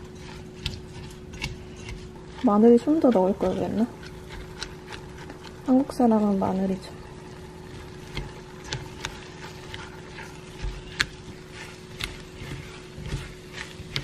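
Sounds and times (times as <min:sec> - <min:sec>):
spatula scraping rice in pot: 0:00.0 - 0:06.0, 0:07.2 - 0:14.0.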